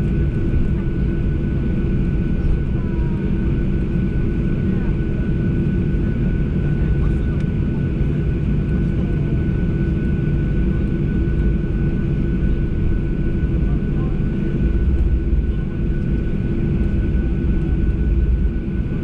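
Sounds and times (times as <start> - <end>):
jet engine deep rumble: 0.0 - 19.0
thin steady engine whine: 0.0 - 19.0.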